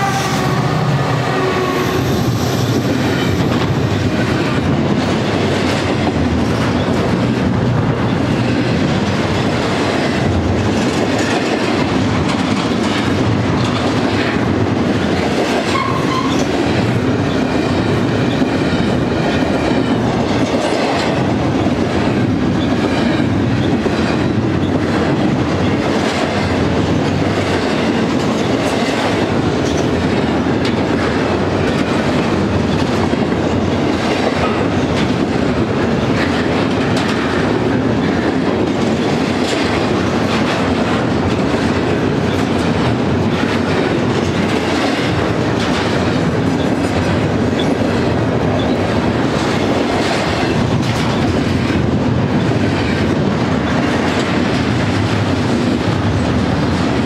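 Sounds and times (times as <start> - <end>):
freight train rumbling past: 0.0 - 57.0
rattling of train cars: 0.0 - 57.0
wheels clacking over rail joints: 1.3 - 57.0.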